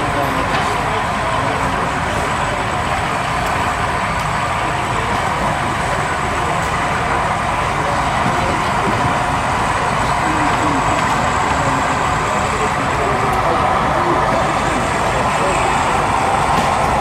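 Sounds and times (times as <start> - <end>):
background hum of hall: 0.0 - 17.0
model train rumbling: 0.0 - 17.0.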